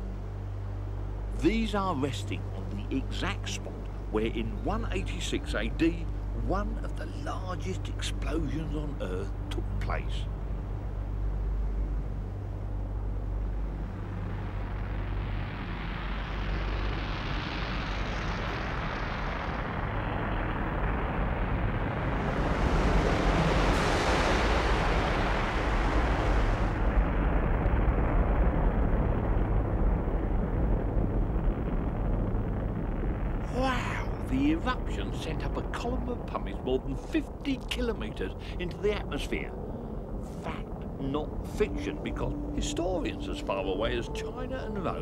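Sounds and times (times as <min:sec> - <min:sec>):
low volcanic rumble: 0:00.0 - 0:45.0.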